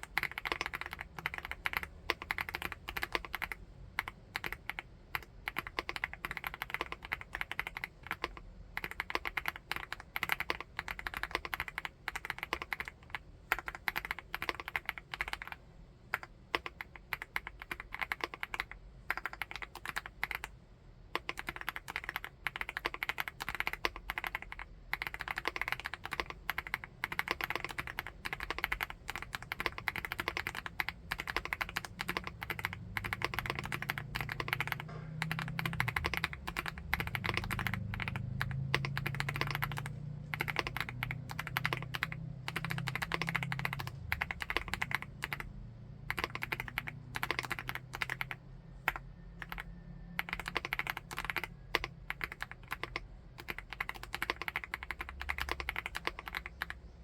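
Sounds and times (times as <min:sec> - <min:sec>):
fast typing on metal keyboard: 0:00.0 - 0:57.0.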